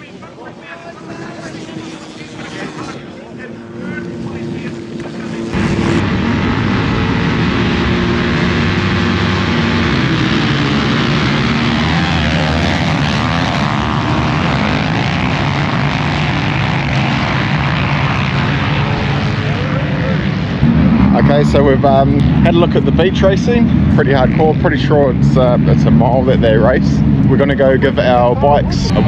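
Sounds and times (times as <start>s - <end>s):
racing motorcycle engines revving: 0.0s - 29.0s.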